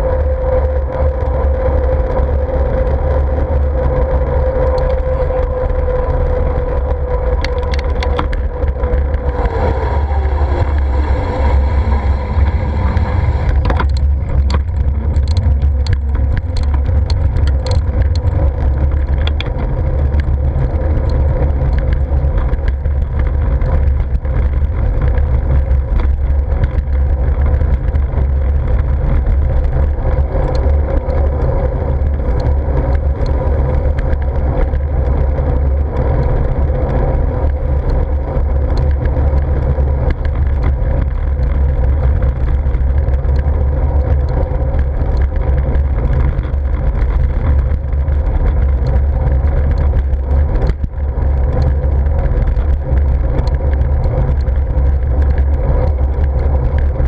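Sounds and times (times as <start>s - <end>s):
bicycle road rumble: 0.0s - 57.0s
car traffic: 0.0s - 57.0s
wind noise: 0.0s - 57.0s
light clicks and rattles: 4.6s - 9.3s, 12.4s - 57.0s.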